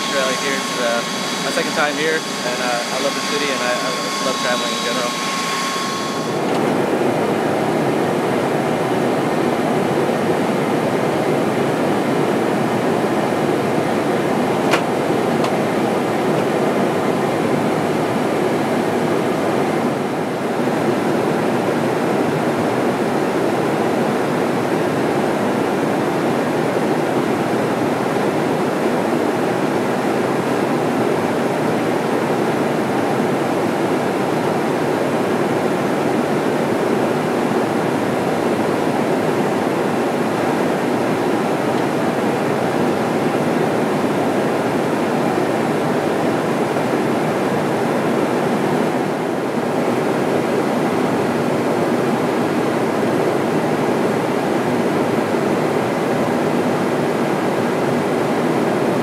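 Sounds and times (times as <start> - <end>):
aircraft cabin engine roar: 0.0 - 59.0.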